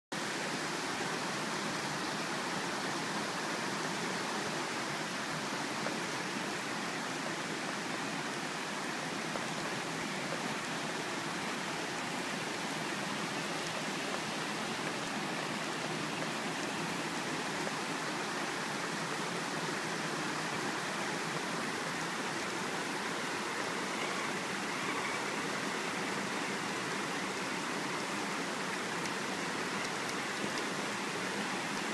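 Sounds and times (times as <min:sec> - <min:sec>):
fast-running creek water: 0:00.1 - 0:31.9.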